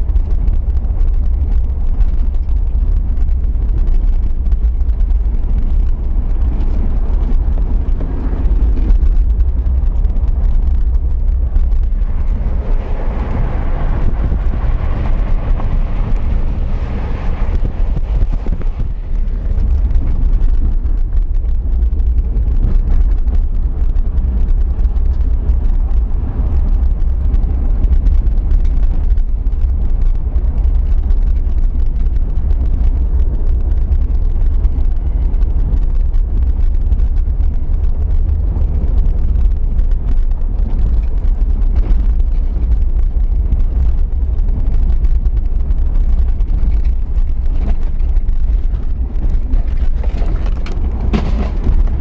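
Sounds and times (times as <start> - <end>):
vehicle driving on dirt track: 0.0 - 52.0.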